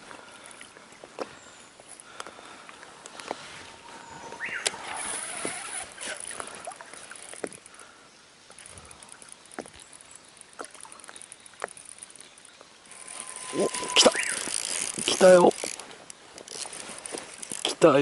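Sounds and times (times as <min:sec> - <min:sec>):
water splashing around boat: 0:00.0 - 0:18.0.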